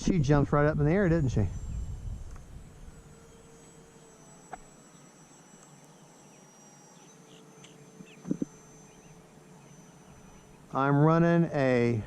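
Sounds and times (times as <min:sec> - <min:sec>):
distant model plane humming: 0:00.0 - 0:12.0
high-pitched insect buzz: 0:00.9 - 0:11.0.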